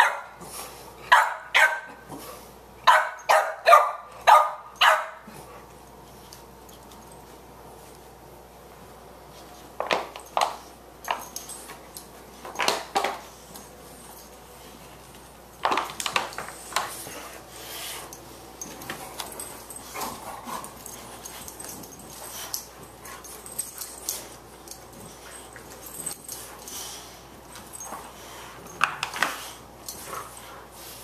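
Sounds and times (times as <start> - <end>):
dogs play-fighting noises: 0.0 - 31.0.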